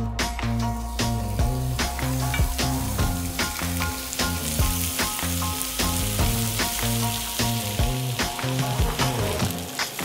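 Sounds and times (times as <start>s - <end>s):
background music with steady beat: 0.0s - 10.0s
steak sizzling on grill pan: 0.7s - 10.0s.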